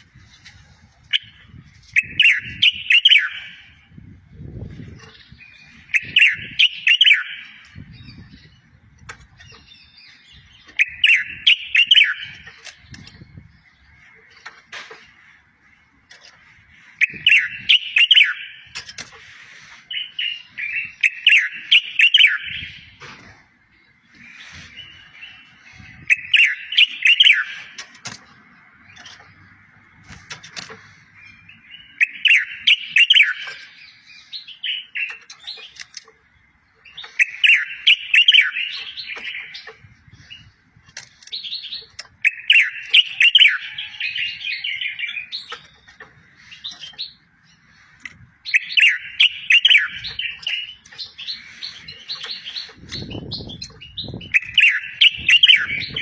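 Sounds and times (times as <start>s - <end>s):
songbird chirping song: 0.0s - 56.0s.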